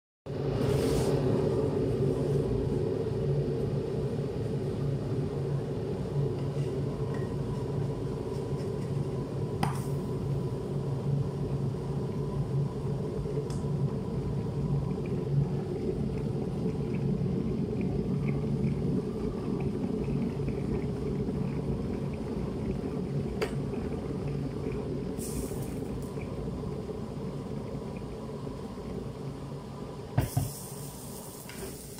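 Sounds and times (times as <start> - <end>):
low motor hum: 0.3 - 30.2.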